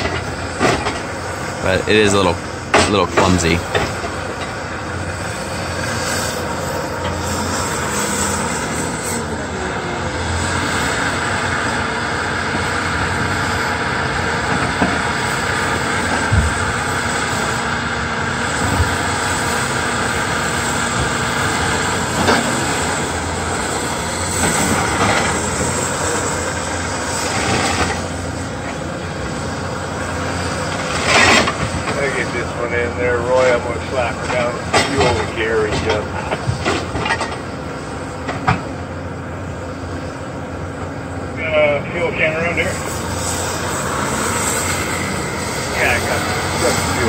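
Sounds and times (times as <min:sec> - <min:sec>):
diesel engine and hydraulics running: 0:00.0 - 0:47.0.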